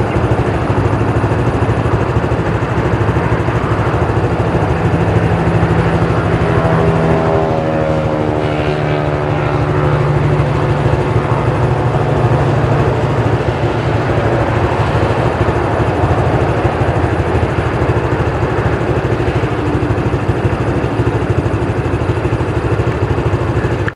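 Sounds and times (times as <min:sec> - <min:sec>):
combine harvester engine running: 0:00.0 - 0:23.9.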